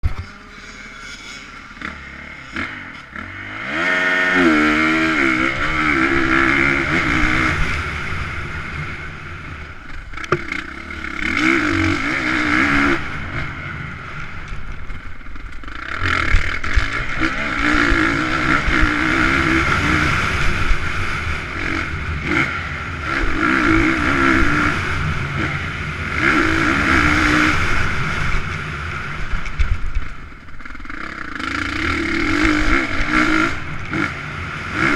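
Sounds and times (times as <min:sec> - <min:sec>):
motocross motorcycles revving: 0:00.0 - 0:34.9.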